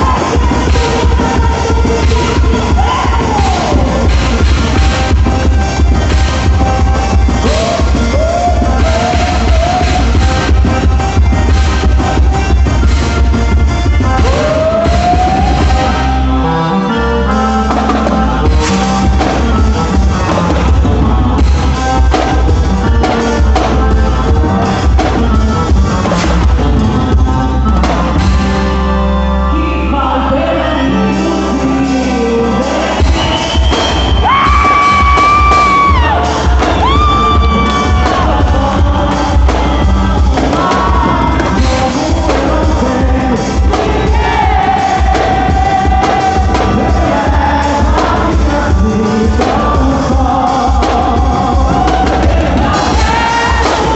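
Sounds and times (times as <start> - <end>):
person singing: 0.0 - 12.7, 13.9 - 53.9.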